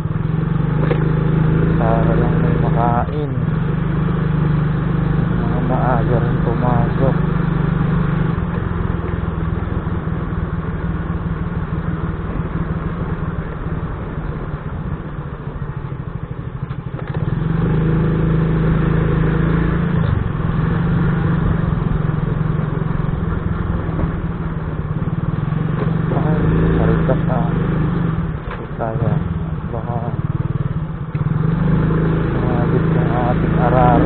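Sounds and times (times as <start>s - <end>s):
plow engine running: 0.0s - 34.0s.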